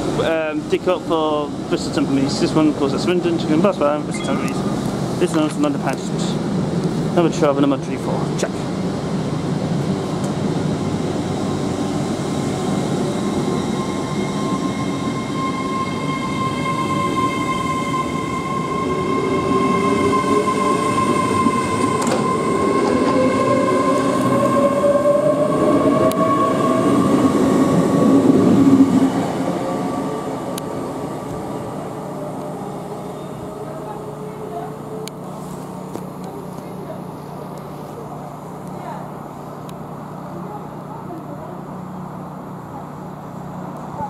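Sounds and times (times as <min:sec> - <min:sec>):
train wheels rumbling on rail: 0:00.0 - 0:41.2
rising train whine: 0:00.0 - 0:44.0.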